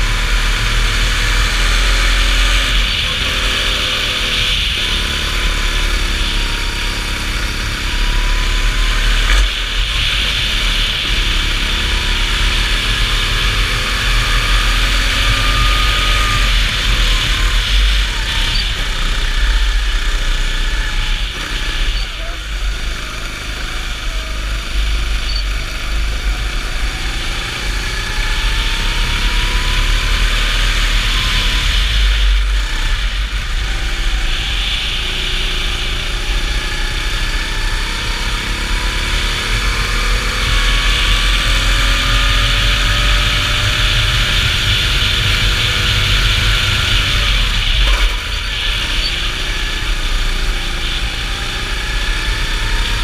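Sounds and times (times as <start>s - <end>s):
steady rushing noise: 0.0s - 38.3s, 39.5s - 53.0s
go-kart engine accelerating: 0.0s - 53.0s.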